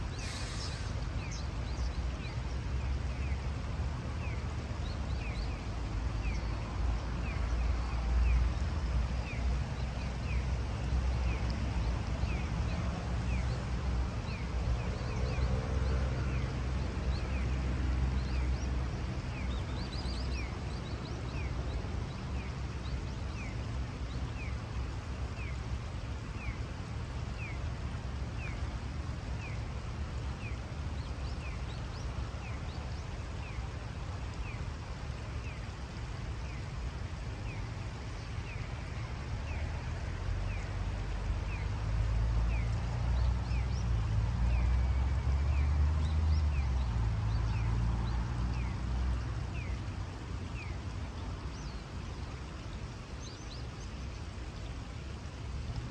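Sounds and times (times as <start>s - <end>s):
river running over stones: 0.0s - 55.9s.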